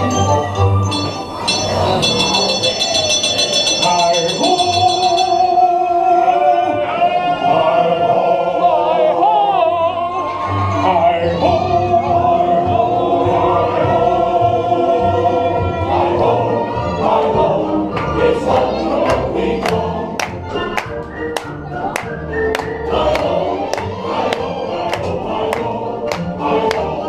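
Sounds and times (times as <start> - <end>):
choir singing with accompaniment: 0.0 - 21.2, 22.2 - 27.0.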